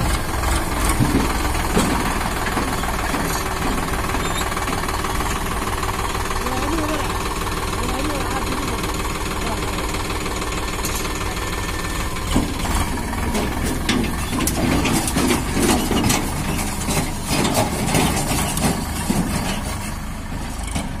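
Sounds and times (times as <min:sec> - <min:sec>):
tractor diesel engine: 0:00.0 - 0:21.0
trolley rattling and clanking: 0:00.0 - 0:21.0.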